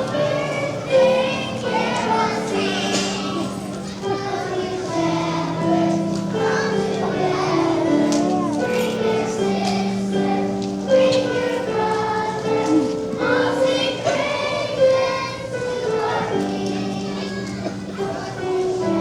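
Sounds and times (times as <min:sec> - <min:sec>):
choir singing: 0:00.0 - 0:19.0
instrumental accompaniment: 0:00.0 - 0:19.0.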